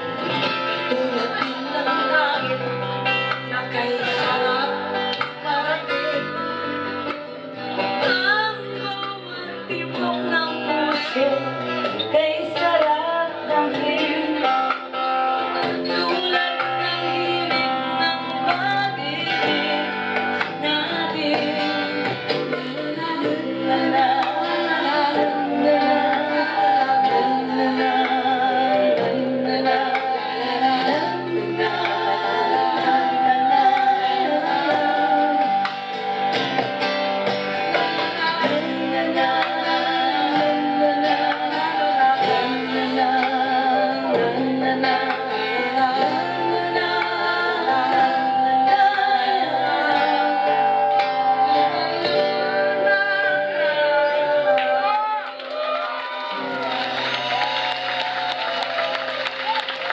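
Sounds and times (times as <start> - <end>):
women singing together: 0.0 - 6.8, 8.0 - 14.9, 15.6 - 36.3, 37.6 - 55.3
acoustic guitar and band: 0.0 - 59.9.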